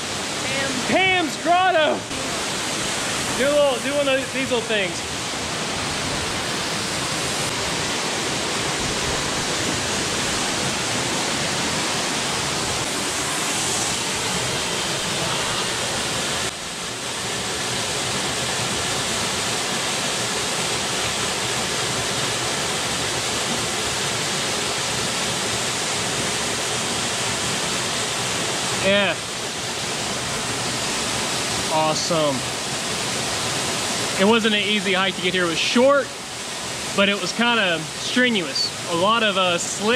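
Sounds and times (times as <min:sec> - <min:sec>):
waterfall pouring into pool: 0:00.0 - 0:39.9.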